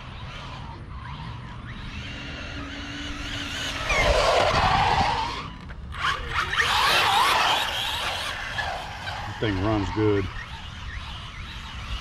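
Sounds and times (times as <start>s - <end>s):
electric motor whine: 0.0s - 12.0s
tires skidding on concrete: 0.0s - 12.0s.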